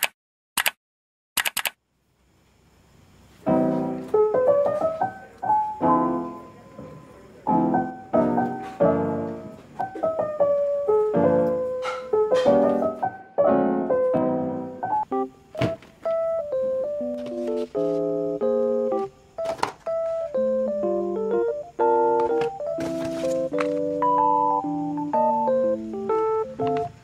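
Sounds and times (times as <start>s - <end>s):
piano music: 3.4s - 27.0s.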